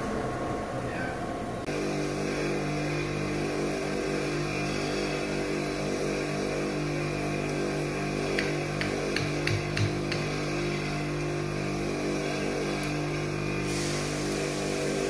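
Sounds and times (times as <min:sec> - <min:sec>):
engine-like hum: 0:00.0 - 0:14.1.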